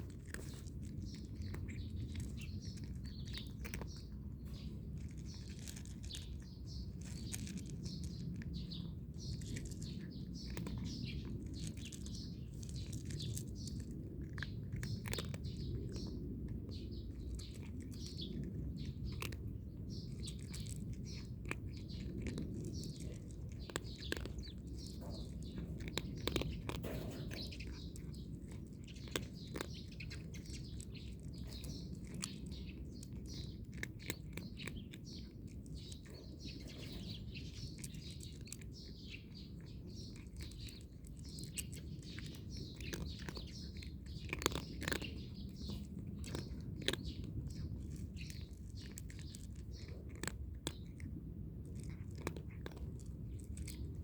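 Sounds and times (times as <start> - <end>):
low background rumble: 0.0 - 54.0
small birds chirping: 0.0 - 54.0.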